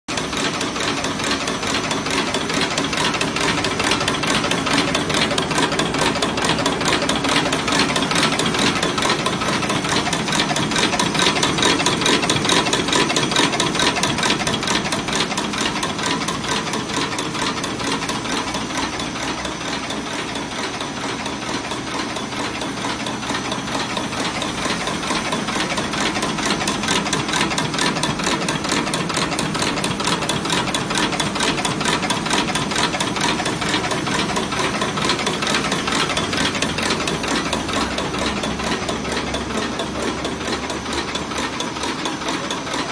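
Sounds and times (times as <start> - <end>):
folding and cutting machine clattering: 0.1 - 42.9.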